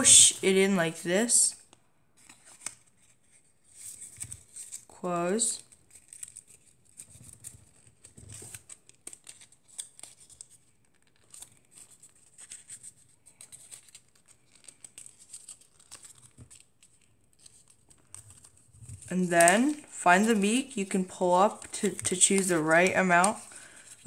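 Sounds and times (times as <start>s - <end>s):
paper crinkling and rustling: 2.2s - 24.0s.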